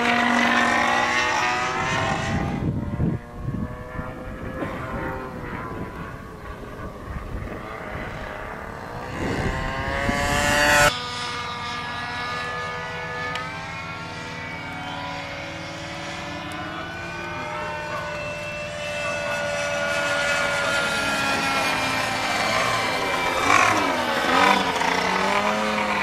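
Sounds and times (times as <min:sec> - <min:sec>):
model airplane engine in flight: 0:00.0 - 0:26.0.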